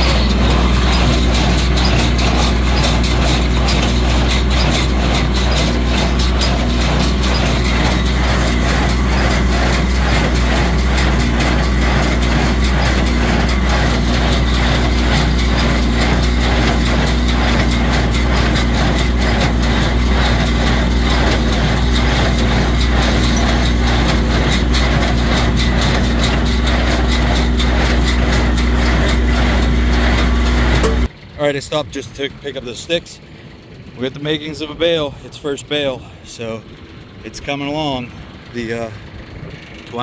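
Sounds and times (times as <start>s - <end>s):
baler mechanism clacking: 0.0s - 40.0s
tractor engine running under load: 0.0s - 40.0s.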